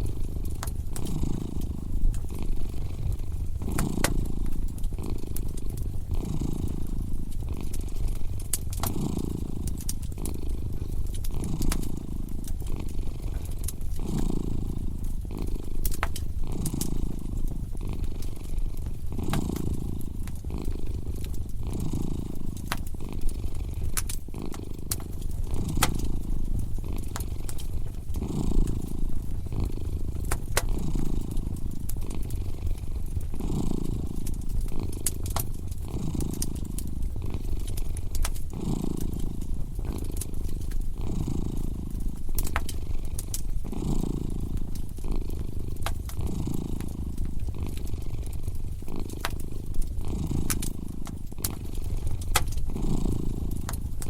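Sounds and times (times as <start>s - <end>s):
cat purring: 0.0s - 54.0s
wood fire crackling: 0.0s - 54.0s.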